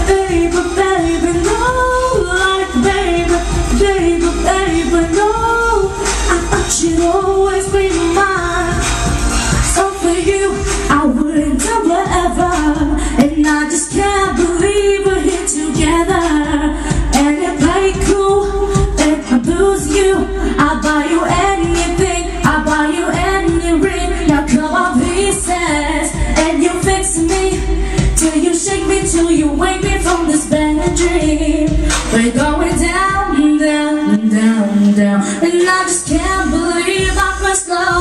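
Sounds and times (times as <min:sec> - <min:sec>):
girl singing into microphone: 0:00.0 - 0:08.9, 0:09.7 - 0:38.0
backing track with steady beat: 0:00.0 - 0:38.0.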